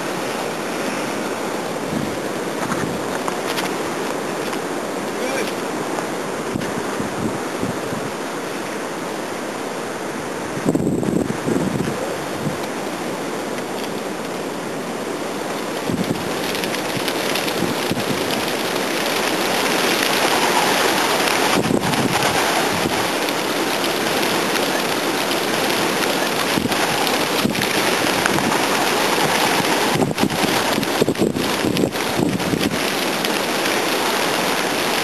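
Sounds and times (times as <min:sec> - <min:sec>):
flock of pigeons wings flapping: 0:00.0 - 0:08.6, 0:11.0 - 0:35.0.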